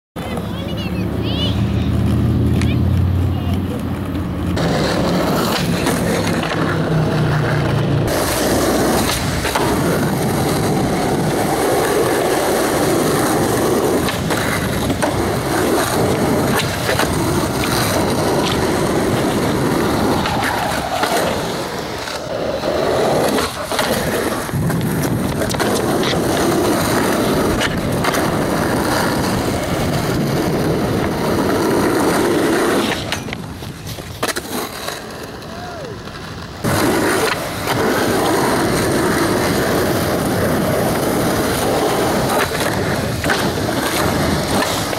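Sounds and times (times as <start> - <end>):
skateboard wheels rolling on asphalt: 0.2 - 44.9
skateboard tail clacks: 1.9 - 44.9.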